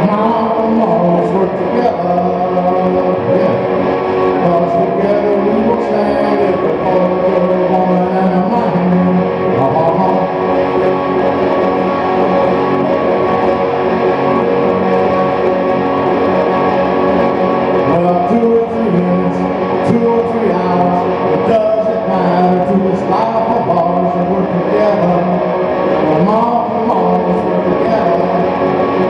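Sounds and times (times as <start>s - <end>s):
guitar playing: 0.0s - 29.0s.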